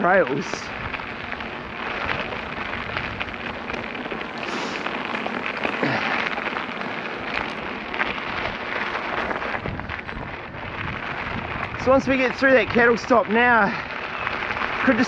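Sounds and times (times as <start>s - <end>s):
bike tyres crunching over gravel: 0.0s - 15.0s.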